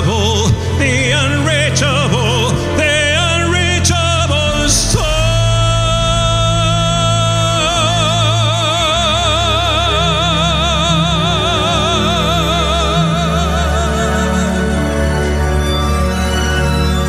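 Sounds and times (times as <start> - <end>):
man singing high held note: 0.0 - 15.2
orchestral backing track: 0.0 - 17.0.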